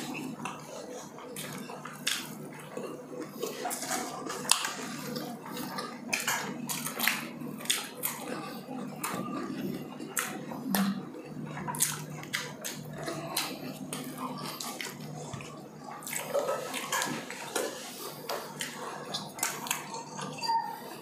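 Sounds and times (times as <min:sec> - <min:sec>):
chewing and mouth smacking: 0:00.0 - 0:21.0.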